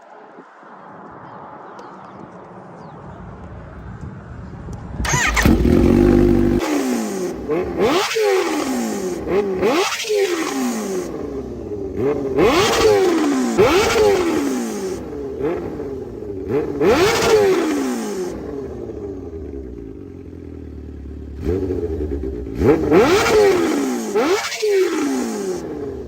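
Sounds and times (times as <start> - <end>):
motorcycle engine revving: 5.0 - 26.0.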